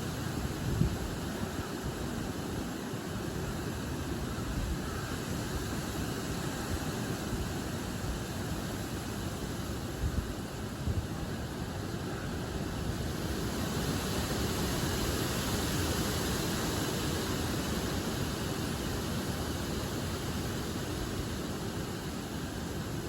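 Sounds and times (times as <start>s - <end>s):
wind rushing through trees: 0.0s - 23.0s.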